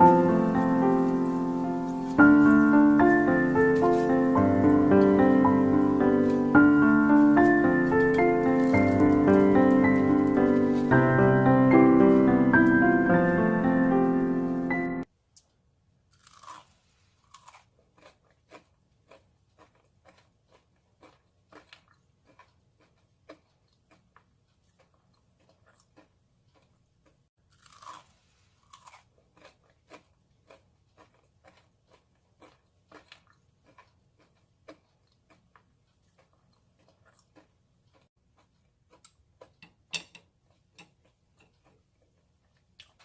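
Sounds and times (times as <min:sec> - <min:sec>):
person chewing crispy pancake: 0:00.0 - 0:14.2, 0:16.1 - 0:43.0.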